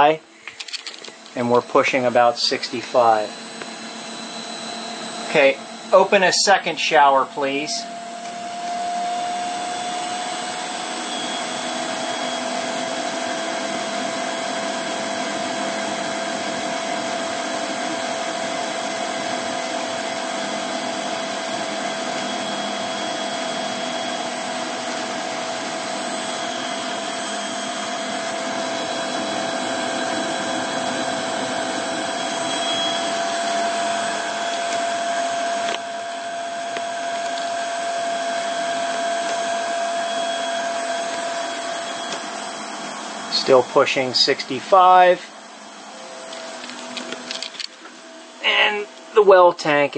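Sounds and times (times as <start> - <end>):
pump motor hum with whine: 0.0 - 49.8.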